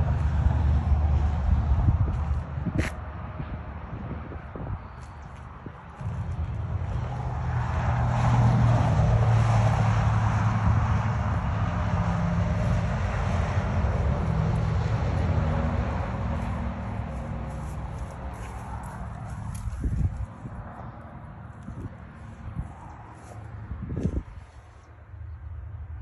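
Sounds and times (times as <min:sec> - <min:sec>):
vehicle engine passing: 0:00.0 - 0:04.1, 0:05.9 - 0:24.9.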